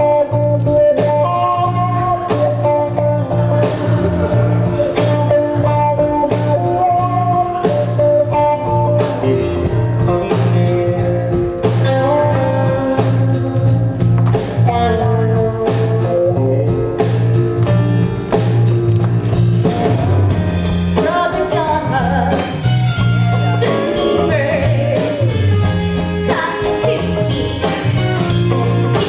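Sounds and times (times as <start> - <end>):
instrumental band music: 0.0 - 29.0.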